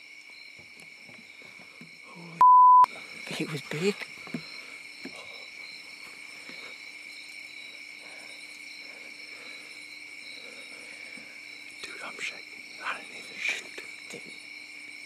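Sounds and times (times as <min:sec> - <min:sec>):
crickets trilling: 0:00.0 - 0:15.0
fast pulsing insect call: 0:00.0 - 0:15.0.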